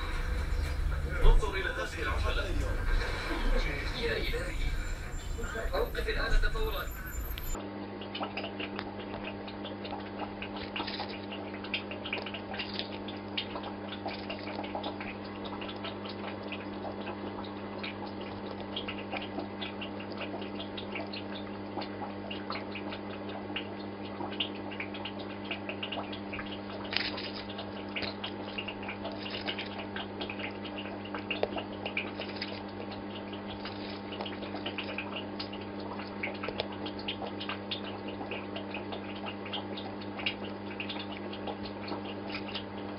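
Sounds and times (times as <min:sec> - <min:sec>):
aquarium filter hum: 0:00.0 - 0:42.9
water trickling and bubbling: 0:00.0 - 0:42.9.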